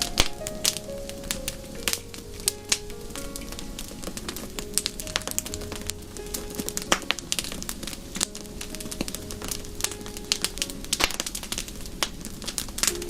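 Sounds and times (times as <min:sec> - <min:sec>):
low hiss: 0:00.0 - 0:13.0
wood fire crackling and popping: 0:00.0 - 0:13.0.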